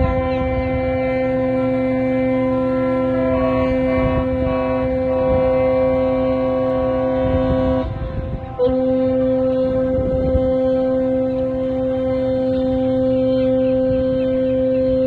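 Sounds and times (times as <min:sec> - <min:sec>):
deep ship horn: 0:00.0 - 0:15.0
higher ship horn: 0:00.0 - 0:15.0.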